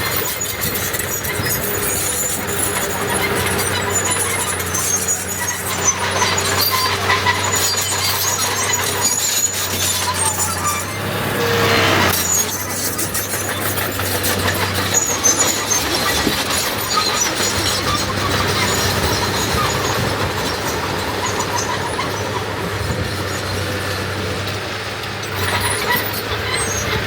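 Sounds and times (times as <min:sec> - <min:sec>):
bulldozer diesel engine running: 0:00.0 - 0:27.0
steel tracks squealing and clanking: 0:00.0 - 0:27.0.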